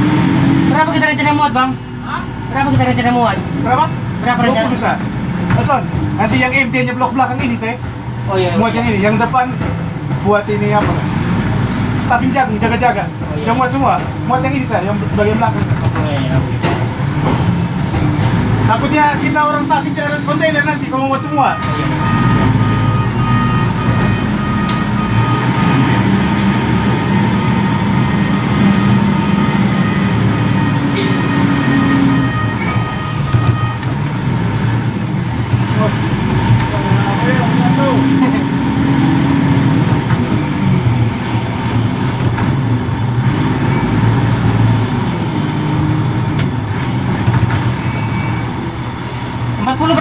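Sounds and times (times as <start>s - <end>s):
diesel engine droning: 0.0s - 50.0s.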